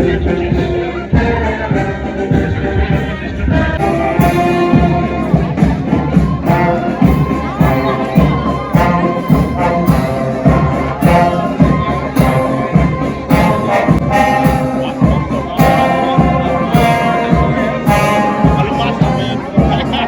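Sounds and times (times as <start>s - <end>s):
drums beating: 0.0s - 20.0s
trumpet and horn notes: 0.0s - 20.0s.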